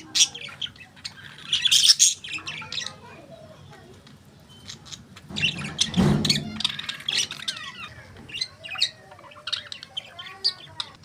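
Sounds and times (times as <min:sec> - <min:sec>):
budgerigars chirping and warbling: 0:00.0 - 0:03.5, 0:04.3 - 0:11.0.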